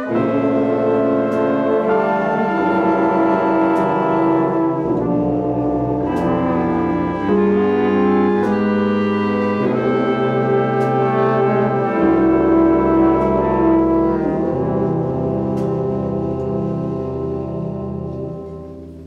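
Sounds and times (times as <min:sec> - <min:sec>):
jazz orchestra brass chords: 0:00.0 - 0:19.0.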